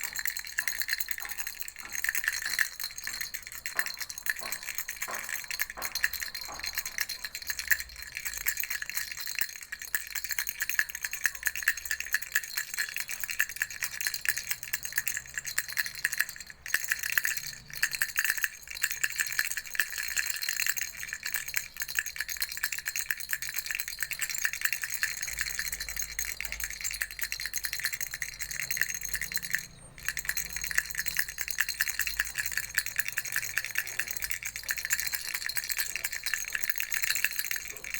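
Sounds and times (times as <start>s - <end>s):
baby rattle shaken: 0.0s - 37.9s.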